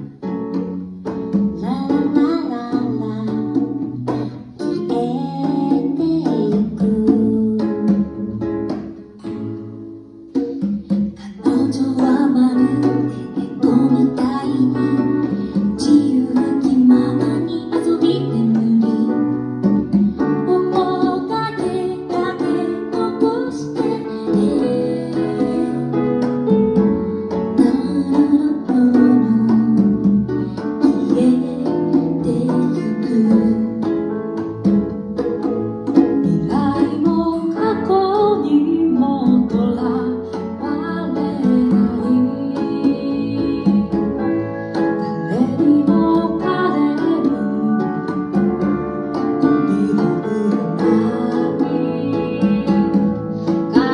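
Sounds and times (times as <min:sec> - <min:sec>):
acoustic guitar: 0:00.0 - 0:53.9
congas: 0:00.0 - 0:53.9
woman singing: 0:01.3 - 0:08.5, 0:11.1 - 0:34.5, 0:36.0 - 0:53.9.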